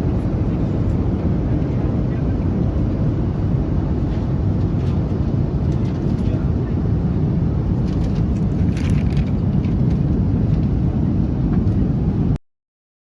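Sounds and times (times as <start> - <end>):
jet cabin rumble: 0.0 - 12.4.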